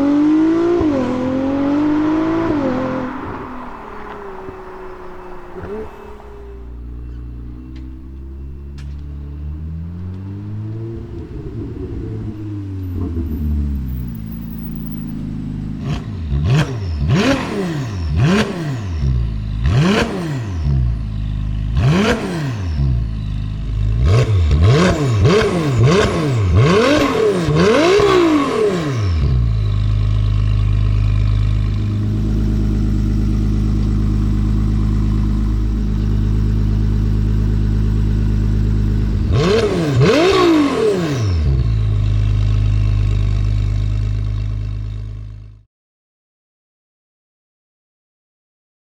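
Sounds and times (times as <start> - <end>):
sports car engine revving: 0.0 - 45.3.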